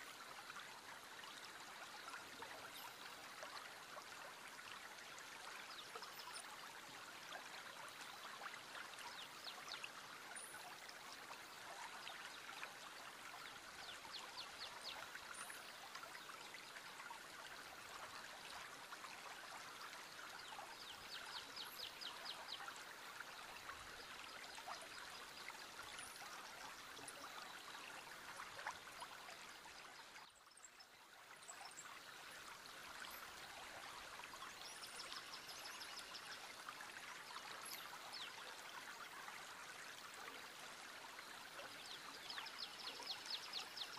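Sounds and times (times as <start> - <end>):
small river flowing: 0.0 - 43.9
water trickling and splashing: 0.0 - 43.9.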